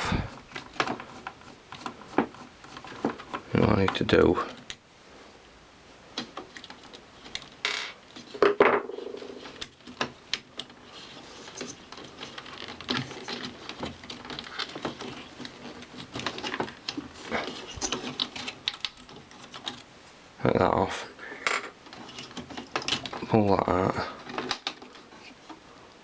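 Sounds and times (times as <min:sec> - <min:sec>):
rustle: 0:00.0 - 0:26.0.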